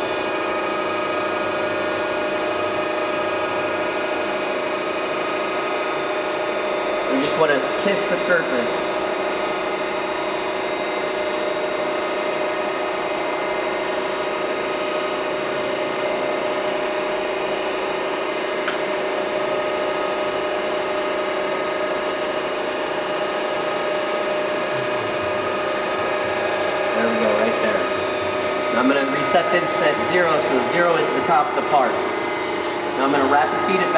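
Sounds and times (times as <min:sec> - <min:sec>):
surface grinder humming and whining: 0:00.0 - 0:33.9.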